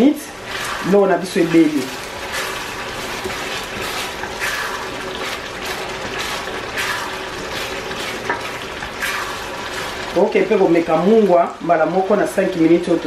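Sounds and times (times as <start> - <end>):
sauce sizzling and bubbling: 0.0 - 13.0.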